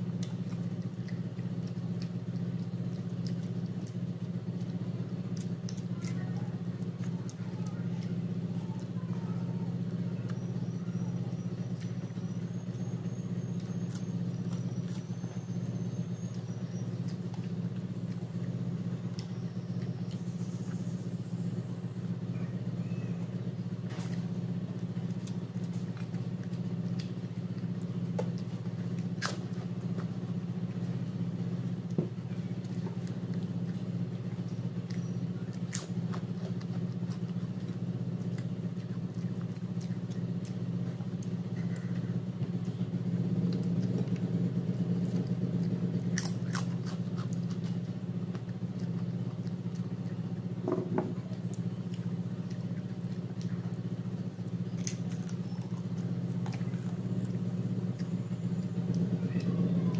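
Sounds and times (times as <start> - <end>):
person chewing food: 0.0 - 9.0, 10.2 - 21.4, 23.2 - 59.9
loud steady low hum: 0.0 - 59.9.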